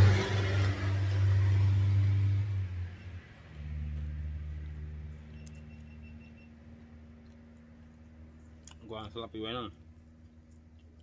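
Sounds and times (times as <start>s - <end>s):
lower engine hum: 0.0s - 11.0s
vehicle engine humming: 0.0s - 11.0s.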